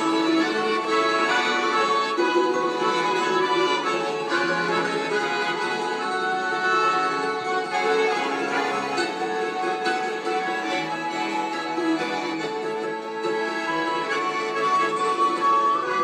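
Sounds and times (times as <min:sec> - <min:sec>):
accordion melody: 0:00.0 - 0:16.0.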